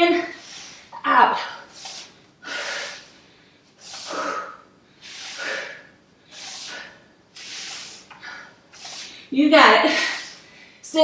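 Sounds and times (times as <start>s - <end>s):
woman breathing hard: 0.2s - 10.8s.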